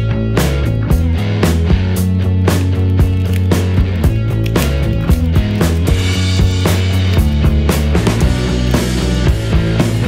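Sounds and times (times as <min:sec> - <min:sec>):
loud rock music with drums: 0:00.0 - 0:10.0.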